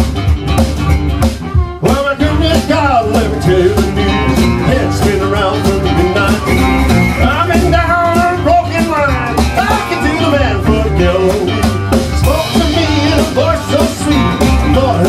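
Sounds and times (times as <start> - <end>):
drums: 0.0 - 15.0
electric guitar: 0.0 - 15.0
strummed resonator guitar: 0.0 - 15.0
harmonica wailing: 1.3 - 15.0.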